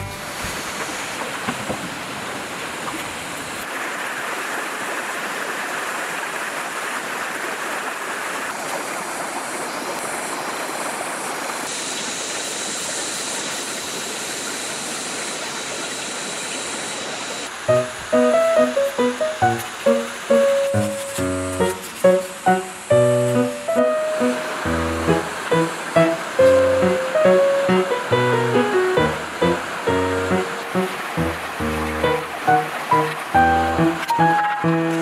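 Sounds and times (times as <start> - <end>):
creek water rushing: 0.0 - 35.0.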